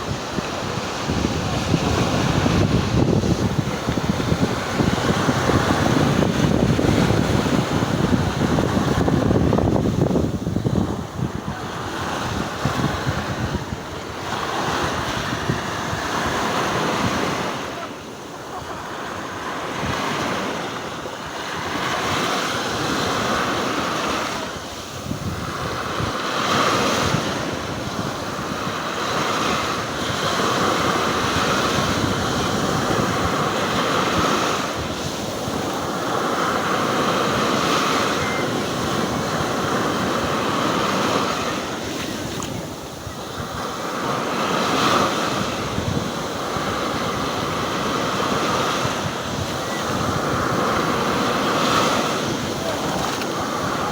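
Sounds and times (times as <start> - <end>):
waves breaking: 0.0 - 53.9
wind buffeting microphone: 0.0 - 53.9.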